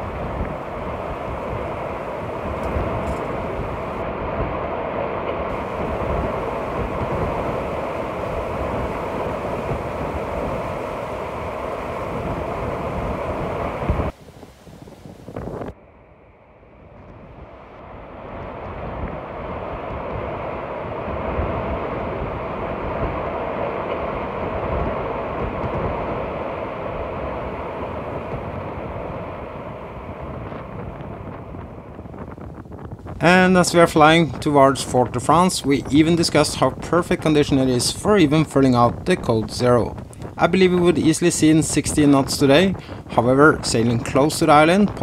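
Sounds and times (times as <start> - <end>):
water rushing along a hull: 0.0 - 15.7, 17.5 - 45.0
wind buffeting microphone: 0.0 - 15.8, 16.8 - 45.0.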